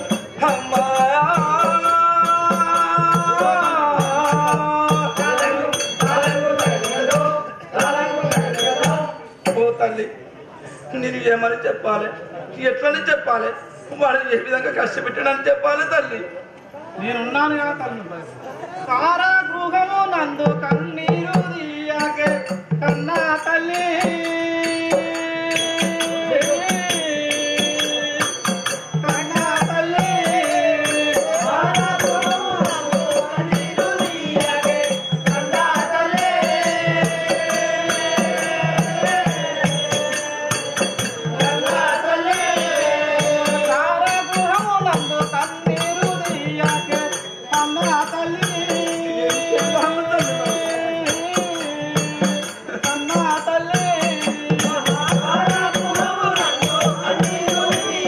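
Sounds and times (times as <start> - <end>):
hand percussion: 0.0 - 9.8, 20.4 - 58.0.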